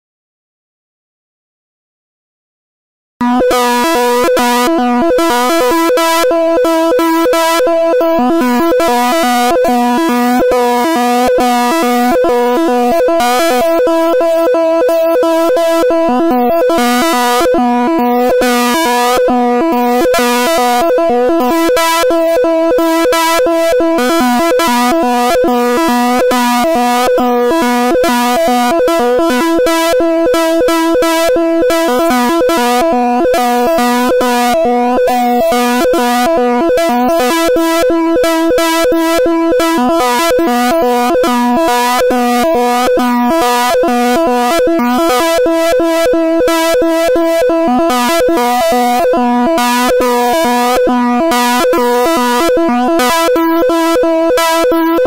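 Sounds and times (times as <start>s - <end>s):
buzzy synthesized drone: 3.2s - 55.0s.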